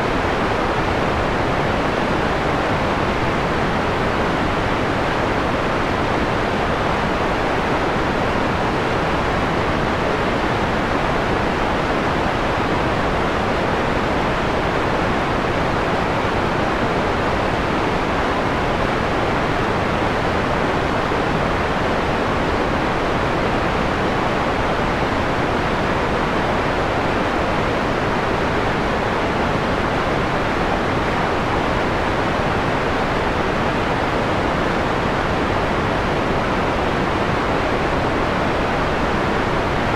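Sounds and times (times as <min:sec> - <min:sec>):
filtered white noise hiss: 0:00.0 - 0:39.9.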